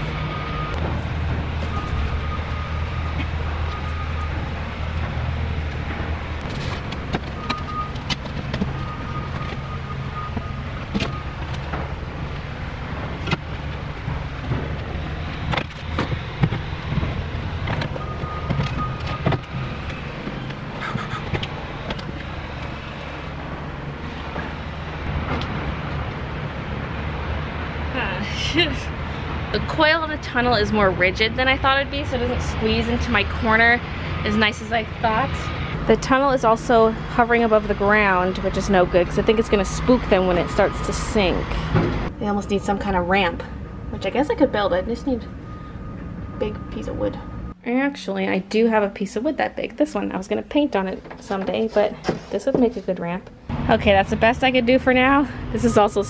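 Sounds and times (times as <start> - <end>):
motor traffic drone: 0.0 - 56.0.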